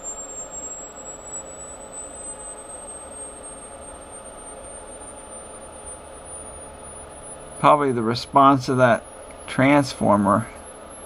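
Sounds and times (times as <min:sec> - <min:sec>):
rising sine test tone: 0:00.0 - 0:11.0.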